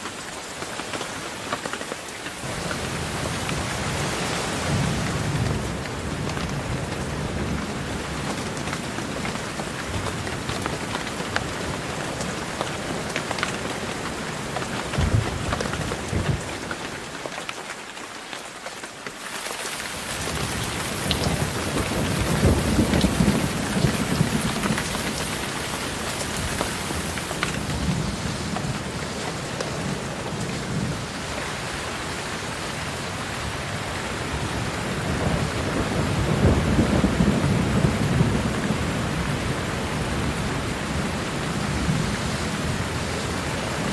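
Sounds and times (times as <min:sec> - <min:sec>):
steady rain: 0:00.0 - 0:43.9
low rolling thunder: 0:02.4 - 0:16.7, 0:19.9 - 0:43.9.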